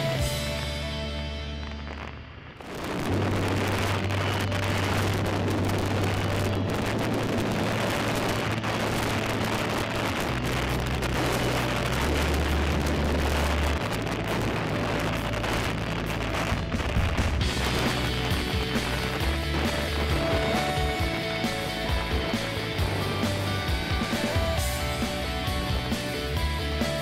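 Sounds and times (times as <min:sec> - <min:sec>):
motorcycle engine drone: 0:00.0 - 0:27.0
wind rush: 0:01.6 - 0:27.0.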